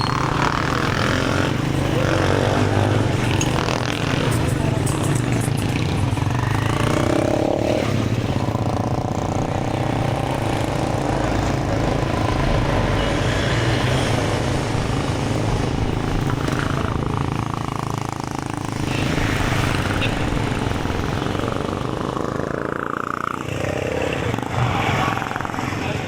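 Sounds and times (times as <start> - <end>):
vehicle engines running: 0.0 - 26.0.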